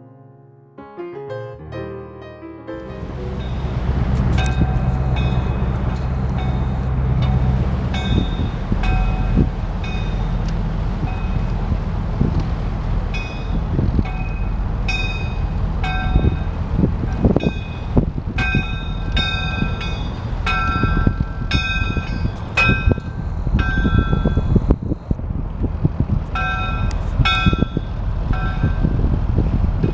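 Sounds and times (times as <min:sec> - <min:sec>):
boat engine and water rumble: 0:02.9 - 0:29.9
waves thumping against hull: 0:03.0 - 0:29.9.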